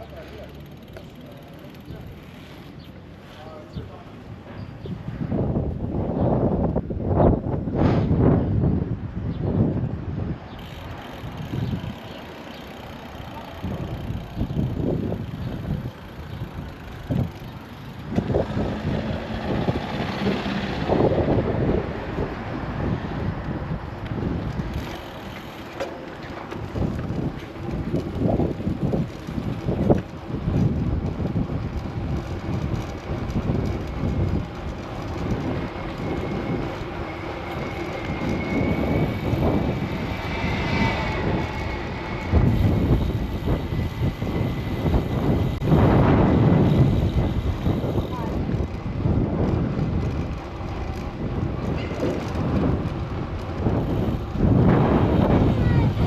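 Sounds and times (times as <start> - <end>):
traffic noise: 0.0 - 56.0
wind rumbling on microphone: 3.8 - 56.0
motor vehicle passing: 10.5 - 56.0.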